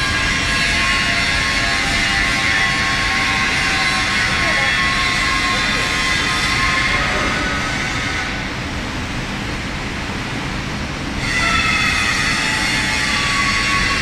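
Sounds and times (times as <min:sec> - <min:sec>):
crane low rumble: 0:00.0 - 0:14.0.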